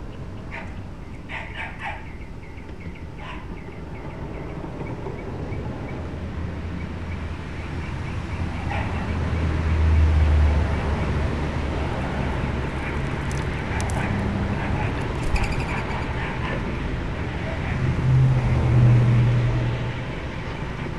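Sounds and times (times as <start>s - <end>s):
vehicle passing rumble: 3.2s - 20.9s.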